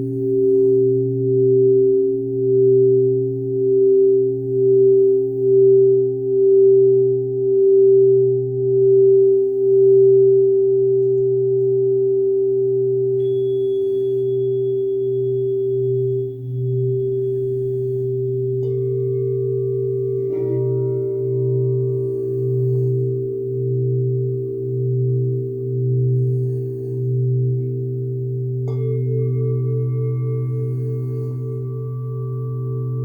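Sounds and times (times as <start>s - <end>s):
singing bowls ringing: 0.0s - 33.0s.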